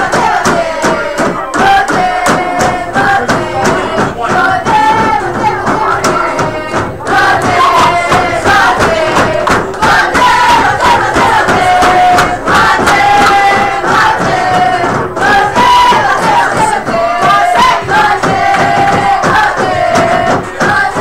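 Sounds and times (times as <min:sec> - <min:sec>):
crowd chanting and cheering: 0:00.0 - 0:21.0.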